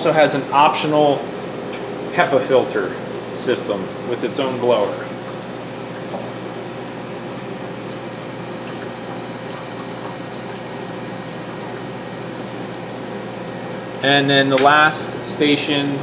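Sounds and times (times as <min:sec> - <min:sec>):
cleaning machine whirring hum: 0:00.0 - 0:16.0.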